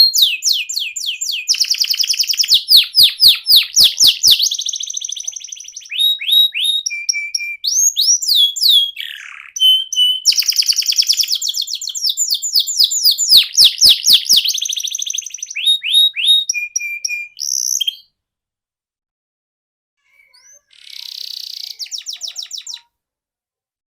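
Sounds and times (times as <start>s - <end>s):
canary singing: 0.0s - 18.2s, 20.0s - 22.9s.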